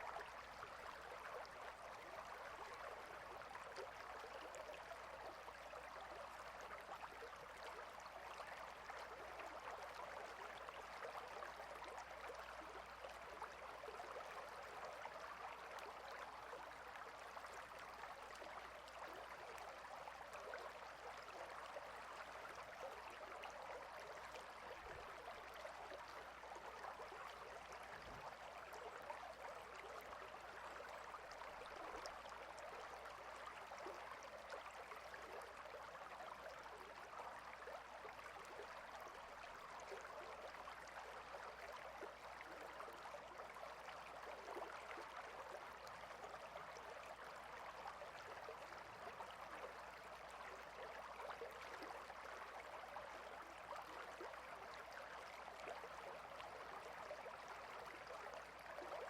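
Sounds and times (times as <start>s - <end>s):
stream water babbling: 0.0s - 59.0s.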